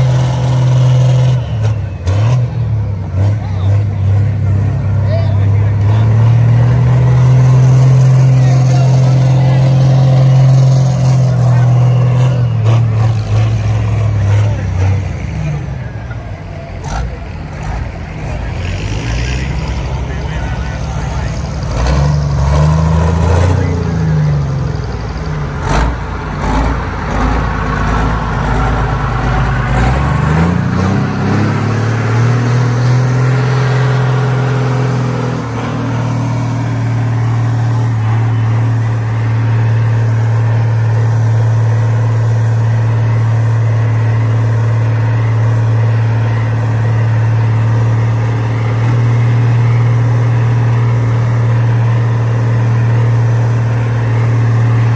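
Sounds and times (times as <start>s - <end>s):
diesel tractor engine revving: 0.0s - 54.9s.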